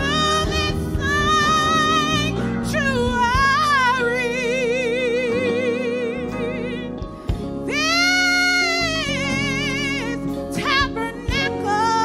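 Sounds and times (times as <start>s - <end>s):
person singing gospel song: 0.0s - 12.0s.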